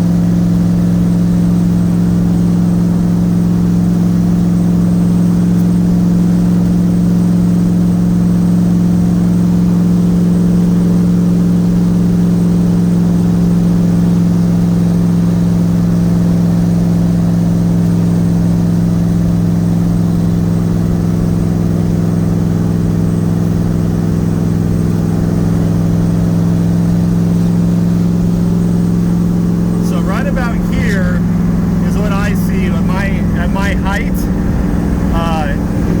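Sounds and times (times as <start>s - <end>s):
car engine drone while cruising: 0.0s - 36.0s.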